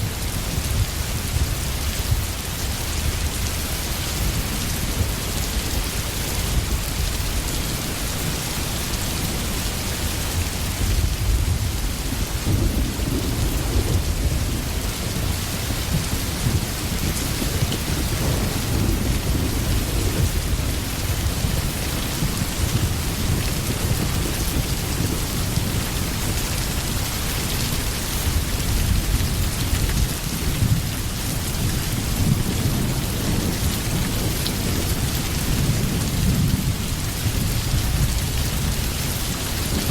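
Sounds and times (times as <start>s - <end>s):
low rolling thunder: 0.0s - 39.9s
steady rain falling: 0.0s - 39.9s.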